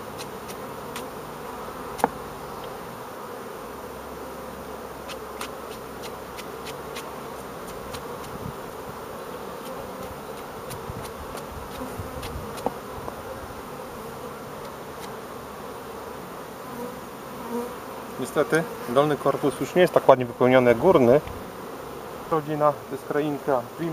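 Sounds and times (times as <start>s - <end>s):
bees buzzing: 0.0s - 23.9s.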